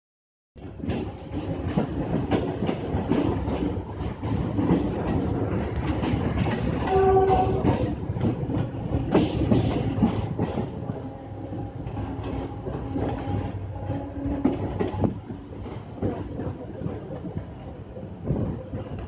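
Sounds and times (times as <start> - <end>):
train wheels clacking over rail joints: 0.6 - 17.5.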